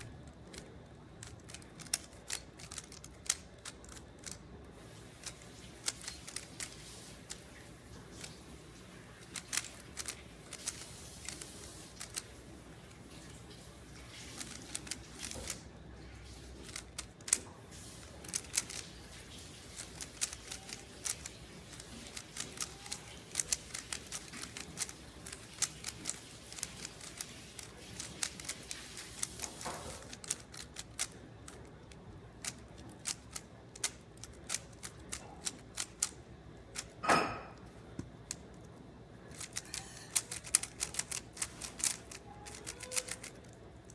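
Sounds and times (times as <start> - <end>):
puzzle cube plastic clicks: 0.0 - 13.0, 14.3 - 15.6, 16.6 - 37.0, 38.0 - 43.9.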